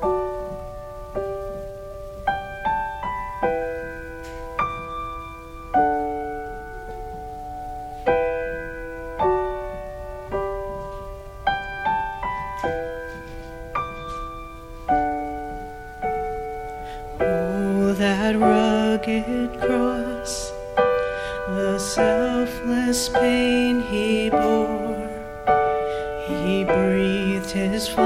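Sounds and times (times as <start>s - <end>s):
slow gentle solo piano: 0.0s - 28.0s.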